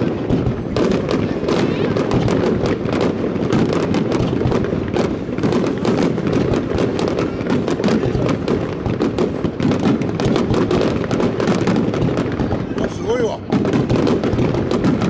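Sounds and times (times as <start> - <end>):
fireworks shells bursting: 0.0 - 15.0.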